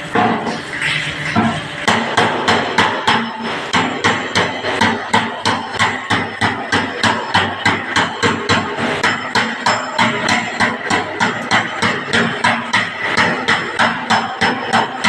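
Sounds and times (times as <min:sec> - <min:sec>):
file slapping steel panel: 0:01.4 - 0:15.0.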